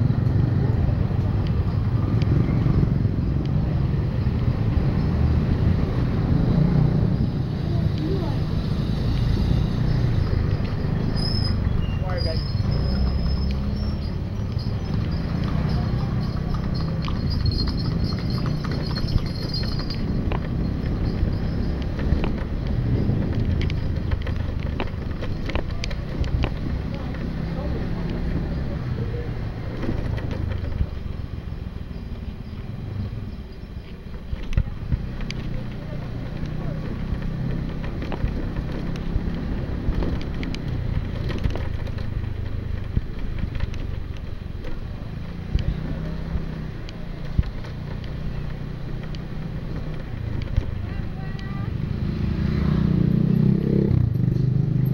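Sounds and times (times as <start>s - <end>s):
horse hooves clip-clopping on road: 0.0s - 54.9s
small motorcycle running: 0.0s - 54.9s.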